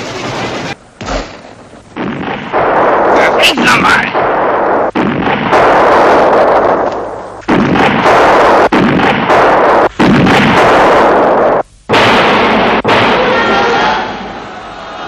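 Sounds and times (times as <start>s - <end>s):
artillery shell explosions: 0.0s - 13.9s
mortar fire: 0.0s - 13.9s.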